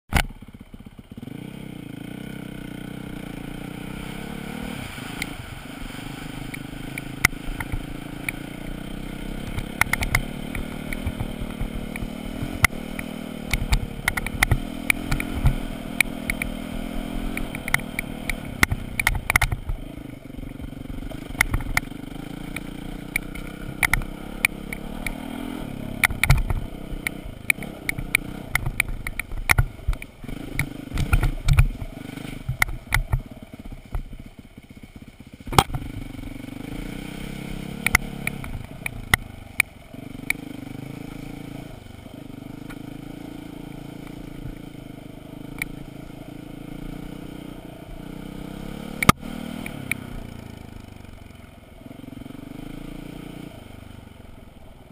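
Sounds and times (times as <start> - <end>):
dirt bike engine revving: 0.2 - 54.9.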